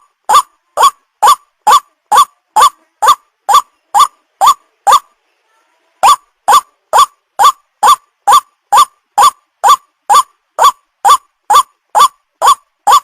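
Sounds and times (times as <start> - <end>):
waterhen calling: 0.0 - 5.0, 6.0 - 13.0.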